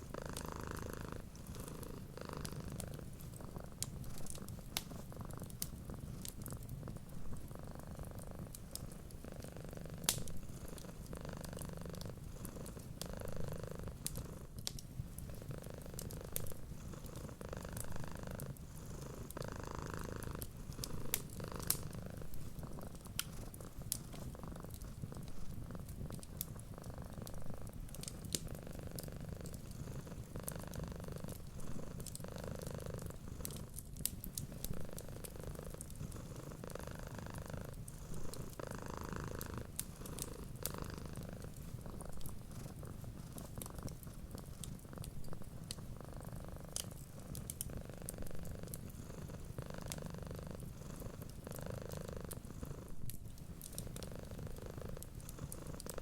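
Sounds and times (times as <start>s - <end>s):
cat purring: 0.0s - 56.0s
wood fire crackling: 0.0s - 56.0s.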